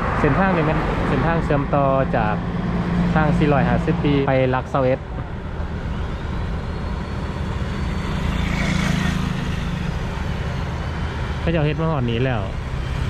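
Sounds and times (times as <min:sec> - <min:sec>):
low rumble of road noise: 0:00.0 - 0:13.0
motorbike passing by: 0:00.0 - 0:13.0.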